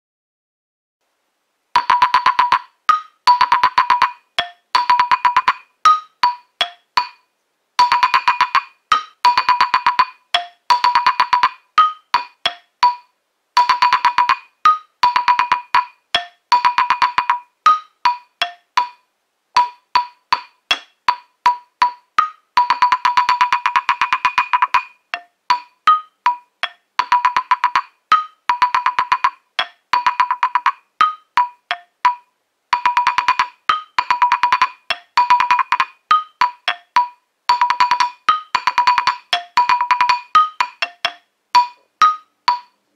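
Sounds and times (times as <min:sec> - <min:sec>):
wooden xylophone played with mallet: 0:01.8 - 0:42.9.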